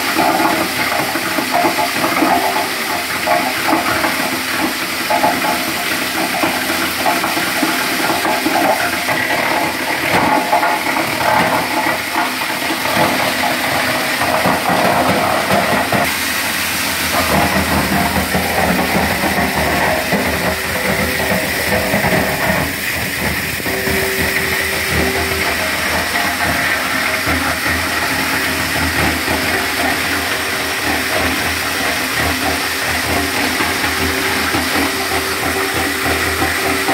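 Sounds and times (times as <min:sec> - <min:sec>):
wood chipper running: 0:00.0 - 0:36.9.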